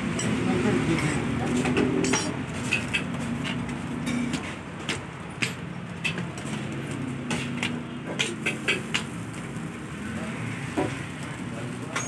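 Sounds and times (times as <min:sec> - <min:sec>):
metal spatula clacking on griddle: 0:00.1 - 0:09.7, 0:10.8 - 0:12.0.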